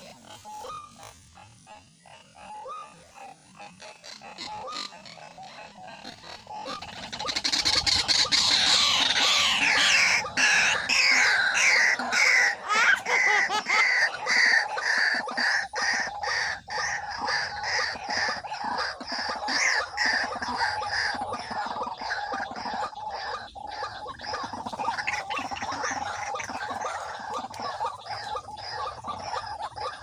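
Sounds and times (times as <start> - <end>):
waterhen harsh calls: 0.0 - 30.0.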